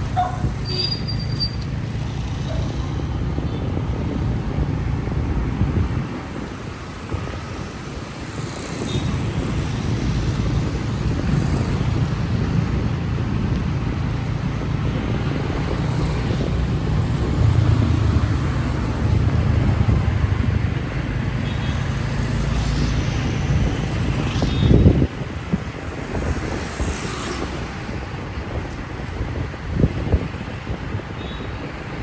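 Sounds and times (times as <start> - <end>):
road noise: 0.0 - 32.0
vehicle engine rumble: 0.0 - 32.0
wind on microphone: 0.0 - 32.0.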